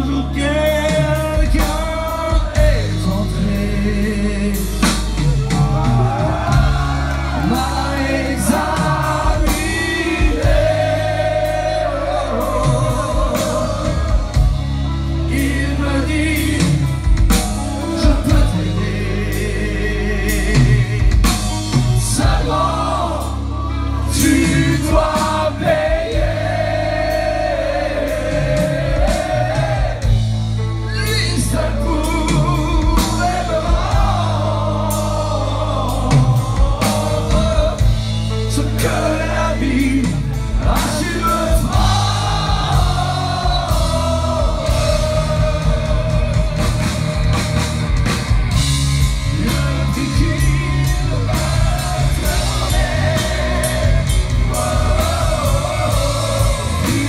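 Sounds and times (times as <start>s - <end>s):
drums: 0.0s - 57.0s
electric guitars: 0.0s - 57.0s
people singing: 0.0s - 57.0s.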